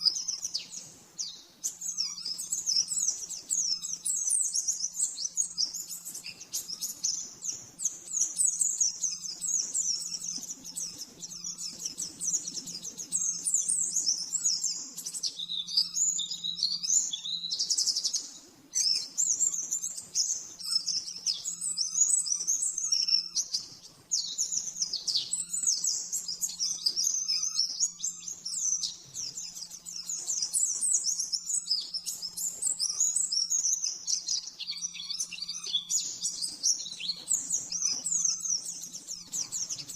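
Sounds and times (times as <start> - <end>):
bird twittering and chattering: 0.0 - 39.9.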